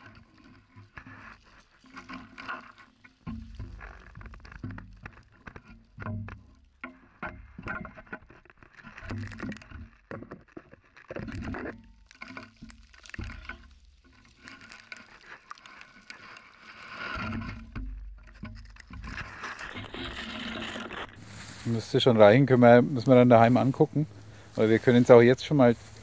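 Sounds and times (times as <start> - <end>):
camera scraping against soil: 0.0 - 6.0, 7.1 - 26.0.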